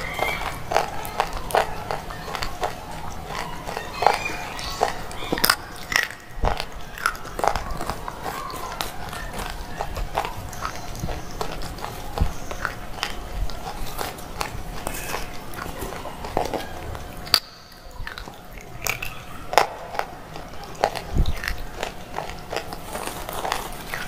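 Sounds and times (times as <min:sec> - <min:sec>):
crunching bites and chewing: 0:00.0 - 0:24.0.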